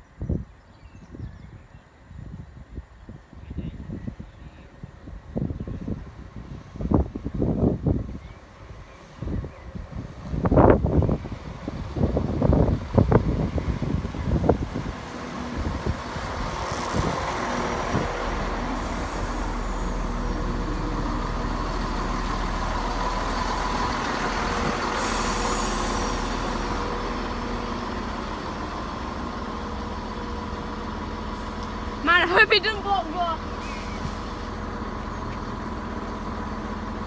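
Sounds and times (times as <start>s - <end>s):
train rumbling past: 4.8s - 37.0s.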